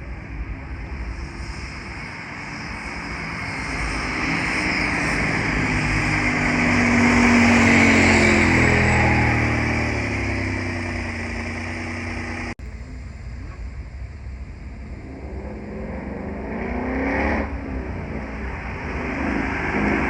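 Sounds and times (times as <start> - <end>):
sports car engine passing: 2.7 - 13.7, 14.6 - 20.0.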